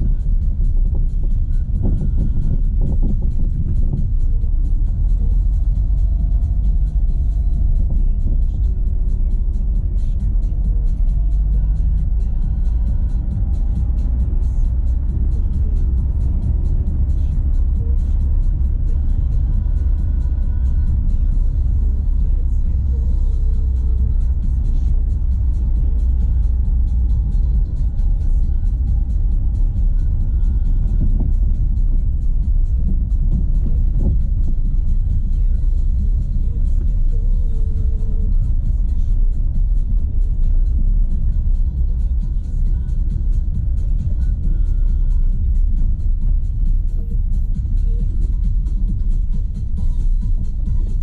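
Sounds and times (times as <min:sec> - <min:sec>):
music with a steady beat: 0:00.0 - 0:51.0
tyres rumbling on dirt road: 0:00.0 - 0:51.0.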